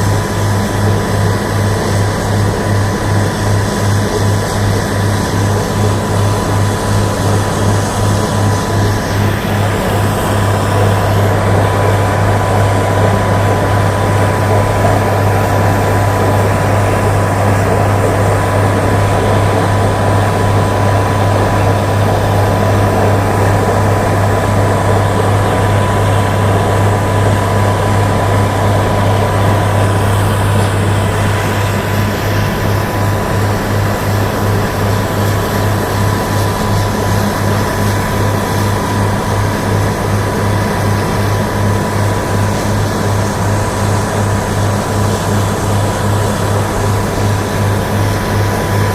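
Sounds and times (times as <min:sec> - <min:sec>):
drilling machines droning: 0:00.0 - 0:48.9
thin steady whine: 0:00.0 - 0:48.9.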